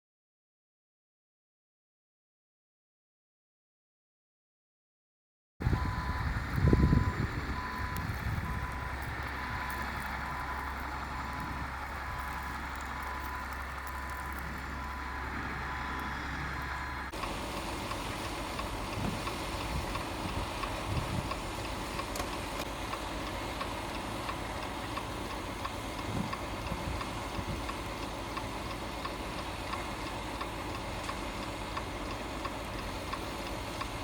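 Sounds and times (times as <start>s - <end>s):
low engine hum: 5.6s - 34.0s
outdoor rumble: 5.6s - 34.0s
vehicle backup alarm beeping: 5.6s - 34.0s.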